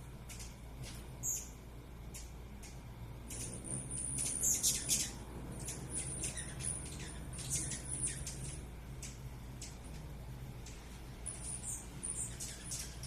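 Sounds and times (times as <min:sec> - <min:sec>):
hummingbirds chirping: 0:00.0 - 0:13.0.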